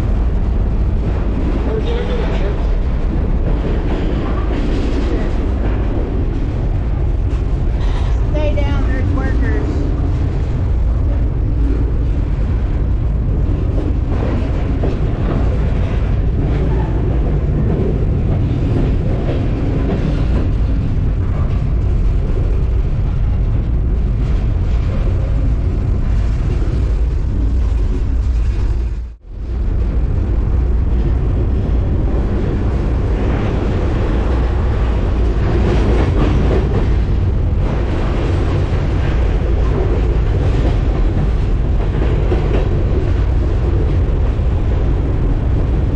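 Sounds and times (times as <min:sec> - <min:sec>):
freight train rumble and rattle: 0:00.0 - 0:45.9.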